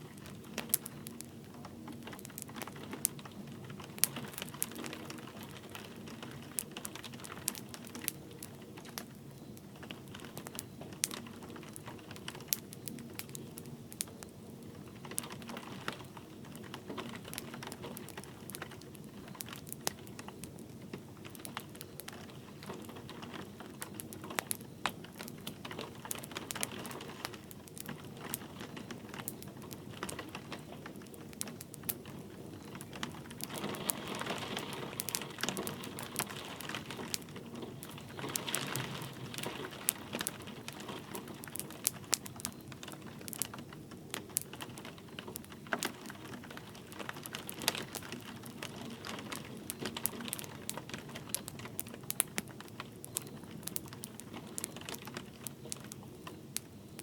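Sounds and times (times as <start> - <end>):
light rain: 0.0 - 57.0
wood fire crackling: 0.0 - 57.0.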